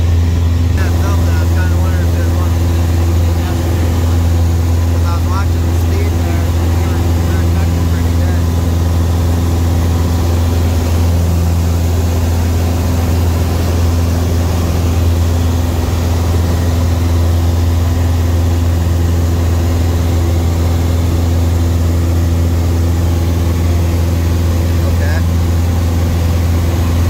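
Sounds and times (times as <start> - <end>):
aircraft engine droning in cabin: 0.0 - 27.0.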